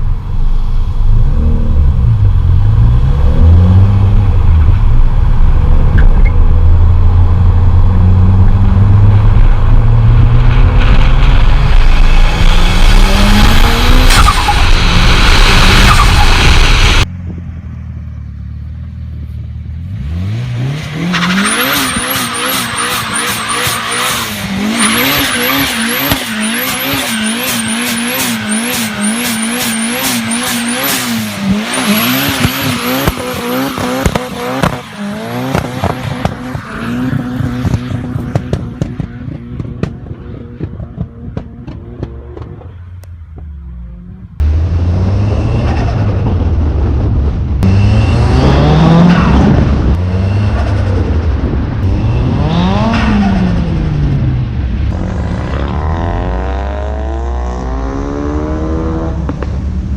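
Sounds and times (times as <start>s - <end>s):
car engine revving: 1.0s - 17.1s, 19.6s - 59.9s.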